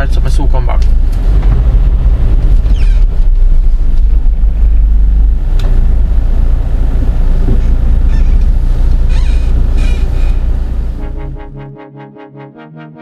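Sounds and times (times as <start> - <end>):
wind buffeting microphone: 0.0 - 11.0
van driving rumble: 0.0 - 11.7.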